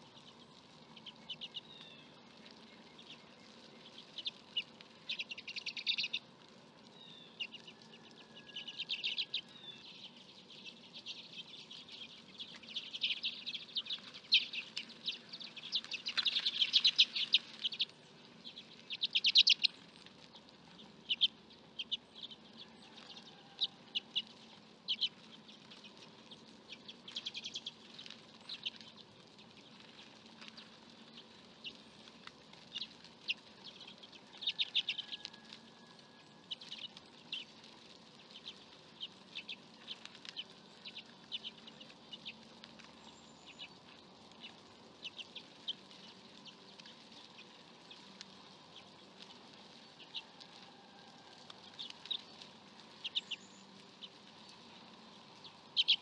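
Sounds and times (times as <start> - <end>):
birds calling in dry trills: 0.0 - 56.0.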